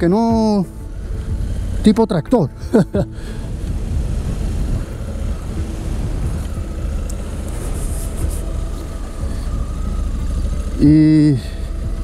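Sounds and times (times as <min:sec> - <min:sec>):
motorcycle engine running: 0:00.0 - 0:12.0
wind rumble: 0:00.0 - 0:12.0.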